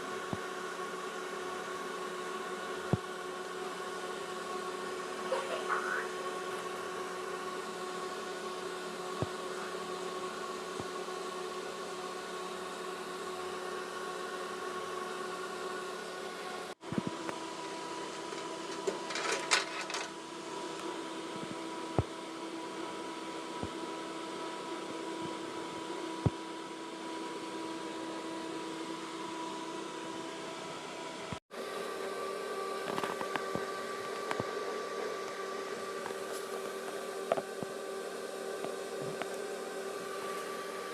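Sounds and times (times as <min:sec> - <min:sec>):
fan hum: 0:00.0 - 0:40.9.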